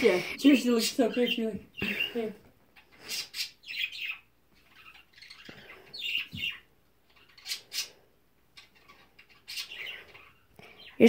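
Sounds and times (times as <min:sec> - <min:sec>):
bird chirping: 0:00.4 - 0:11.0.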